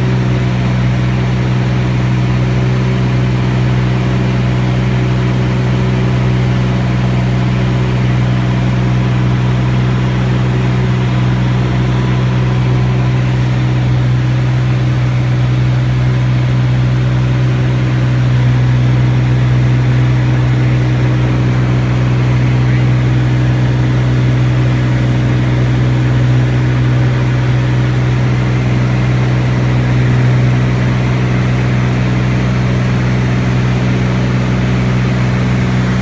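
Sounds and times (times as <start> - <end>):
loud engine drone: 0.0 - 36.0.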